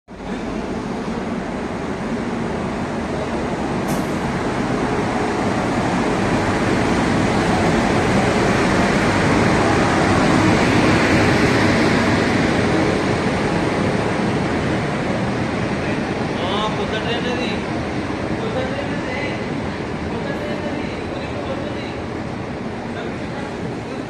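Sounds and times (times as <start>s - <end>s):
passing train rumble: 0.1s - 24.0s.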